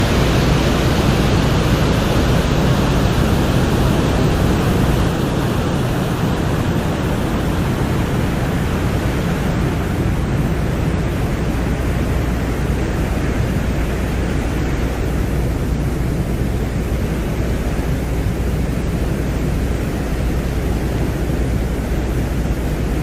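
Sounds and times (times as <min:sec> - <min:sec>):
dense rushing hiss: 0:00.0 - 0:23.0.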